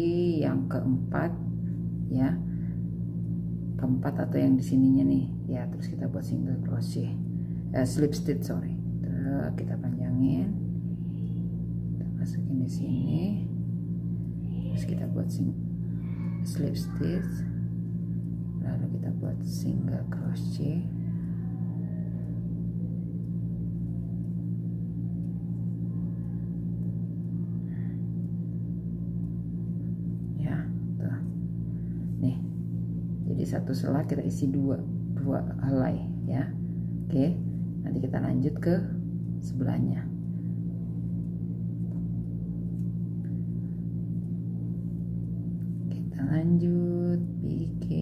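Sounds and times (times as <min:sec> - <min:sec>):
low hum with fixed tones: 0:00.0 - 0:48.0.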